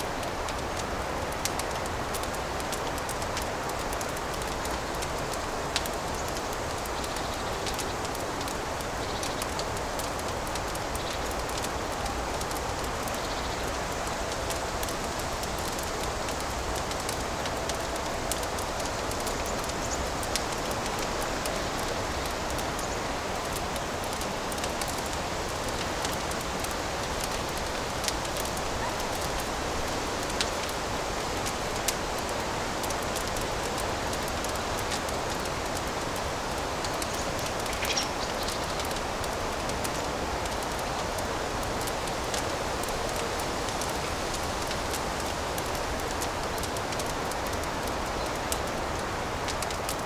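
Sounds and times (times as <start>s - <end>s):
fire crackling and popping: 0.0s - 50.0s.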